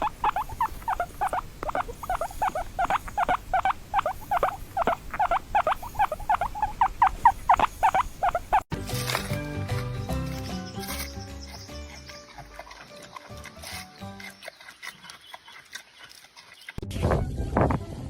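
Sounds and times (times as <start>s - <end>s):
small animal chirping: 0.0s - 8.7s, 10.6s - 16.8s.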